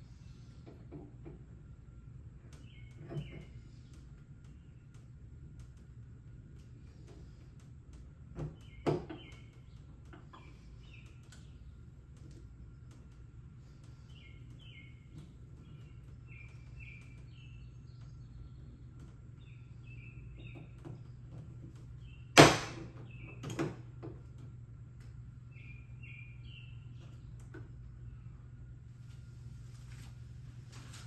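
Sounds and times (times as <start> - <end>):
birds chirping faintly: 0.0 - 31.0.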